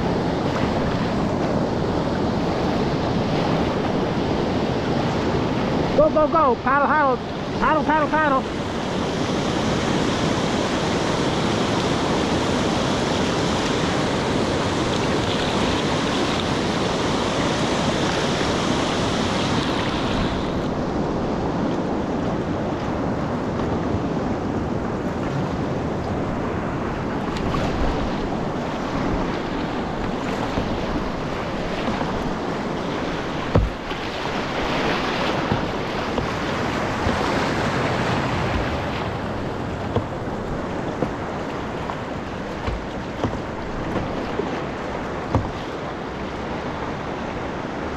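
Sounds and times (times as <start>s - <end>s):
paddle strokes splashing: 0.0s - 24.0s, 25.0s - 47.9s
river rapids rushing: 1.4s - 21.7s, 26.2s - 47.9s.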